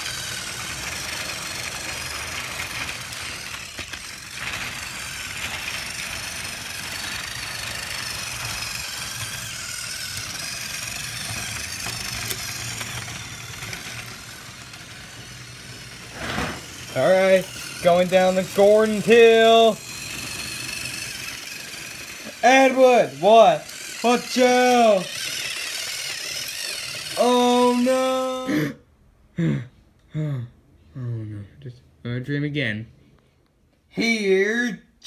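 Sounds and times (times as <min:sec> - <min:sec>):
toy train motor whirring: 0:00.0 - 0:28.7.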